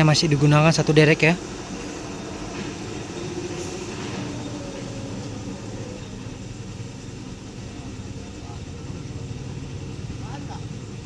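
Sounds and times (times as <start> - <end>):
truck engine under load: 0.0 - 11.0.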